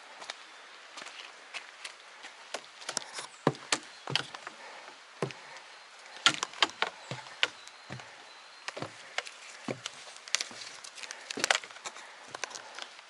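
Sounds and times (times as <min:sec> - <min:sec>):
boot footsteps on trail: 0:00.1 - 0:13.0.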